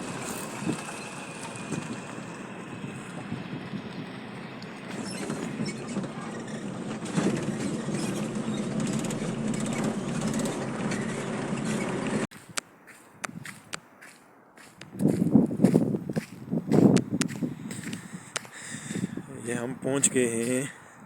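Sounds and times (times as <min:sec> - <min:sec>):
road and wind noise: 0:00.0 - 0:21.0
vehicle rumbling: 0:00.0 - 0:21.0.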